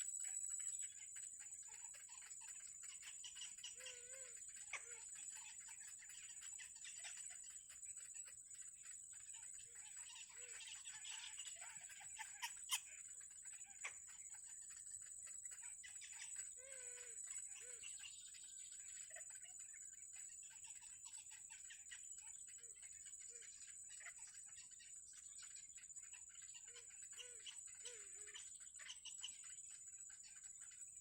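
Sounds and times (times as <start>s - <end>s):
faint bird chirping: 0.0s - 31.0s.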